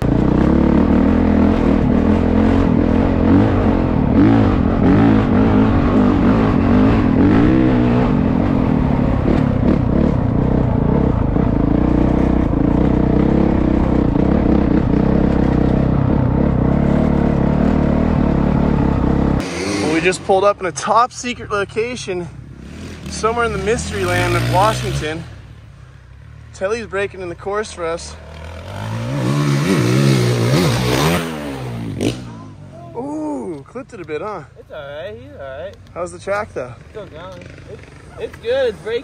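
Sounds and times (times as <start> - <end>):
dirt bike engine revving: 0.0 - 25.7, 26.4 - 32.7.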